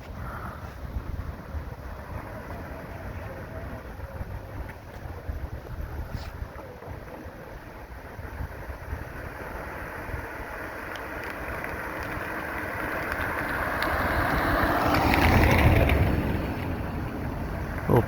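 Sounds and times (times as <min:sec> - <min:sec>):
vehicle passing on road: 0:00.0 - 0:18.0.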